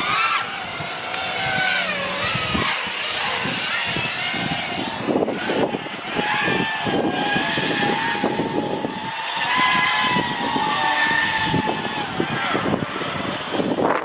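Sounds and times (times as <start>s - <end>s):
gusty rushing noise: 0.0s - 14.0s
quadcopter motors whining: 0.0s - 14.0s.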